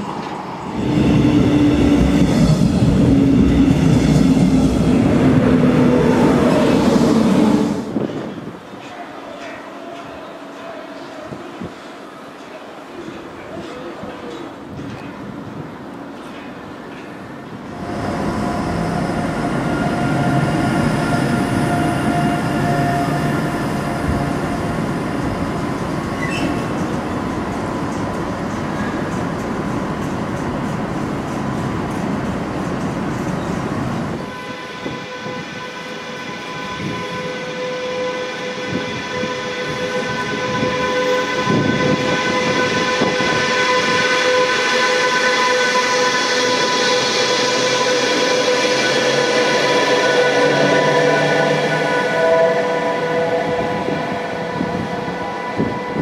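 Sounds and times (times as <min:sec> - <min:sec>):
electric locomotive whine: 0:00.0 - 0:10.4, 0:11.0 - 0:56.0
train rumbling and clattering: 0:00.0 - 0:56.0.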